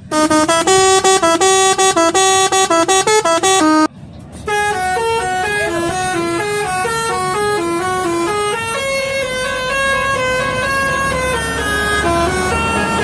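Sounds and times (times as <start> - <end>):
bus engine running: 0.0 - 13.0
multi-tone bus horn tune: 0.0 - 13.0.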